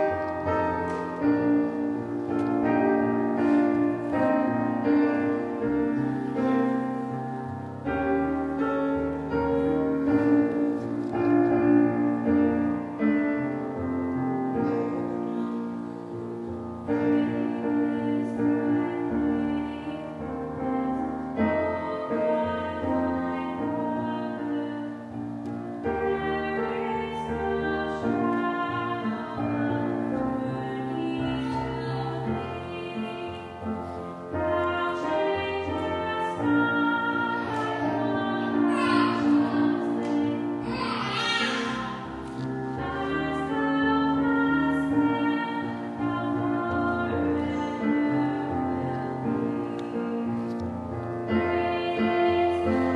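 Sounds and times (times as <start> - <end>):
slow keyboard music: 0.0 - 52.9.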